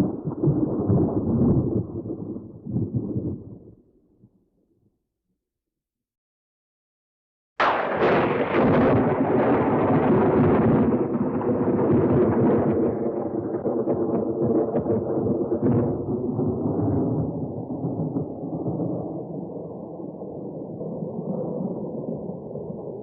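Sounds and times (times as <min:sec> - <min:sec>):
rolling thunder rumble: 0:00.0 - 0:03.8, 0:07.6 - 0:23.0.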